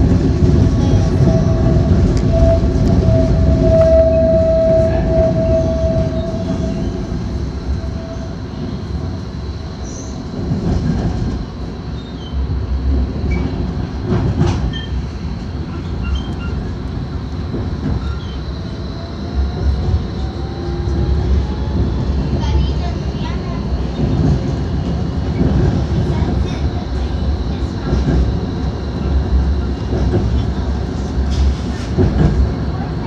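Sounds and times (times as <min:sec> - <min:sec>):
tram wheels rumbling on track: 0:00.0 - 0:33.0
tram whine: 0:00.0 - 0:33.0.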